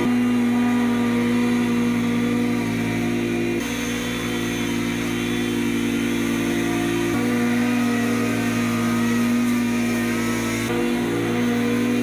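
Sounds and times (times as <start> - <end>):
mower engine running: 0.0 - 12.0.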